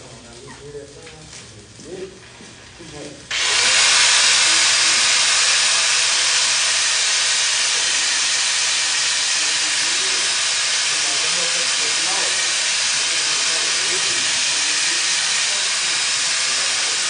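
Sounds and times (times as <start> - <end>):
welding arc hissing and crackling: 0.0 - 17.0.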